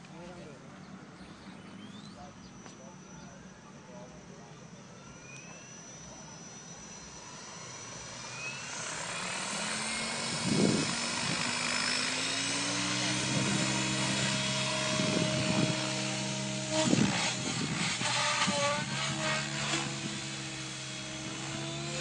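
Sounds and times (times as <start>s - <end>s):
model helicopter whine: 0.0s - 22.0s.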